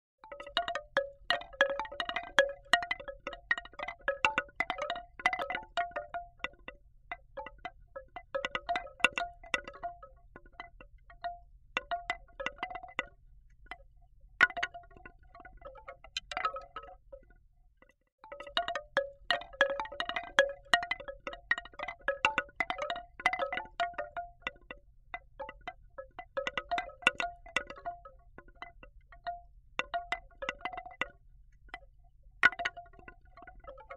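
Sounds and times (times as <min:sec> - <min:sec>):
bamboo wind chime clacking: 0:00.2 - 0:13.8, 0:14.5 - 0:33.9.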